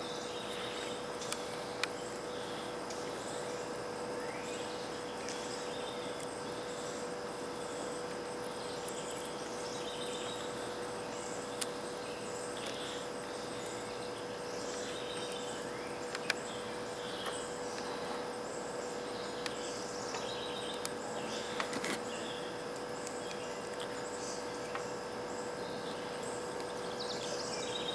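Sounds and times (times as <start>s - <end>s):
birds chirping: 0.0s - 27.9s
insects chirping: 0.0s - 27.9s
steady hum: 0.0s - 27.9s.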